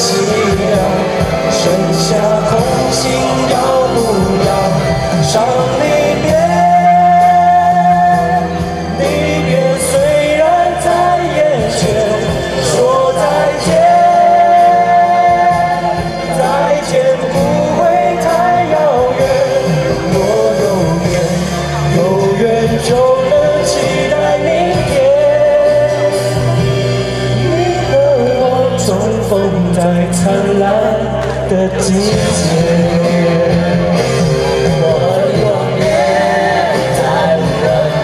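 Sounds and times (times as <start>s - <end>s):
karaoke backing track: 0.0s - 38.0s
person singing: 0.0s - 38.0s.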